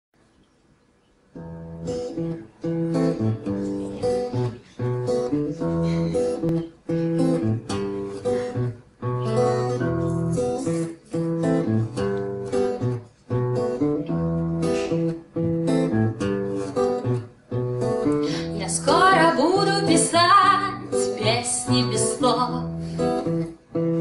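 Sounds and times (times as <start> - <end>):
acoustic guitar strumming chords: 1.4 - 24.0.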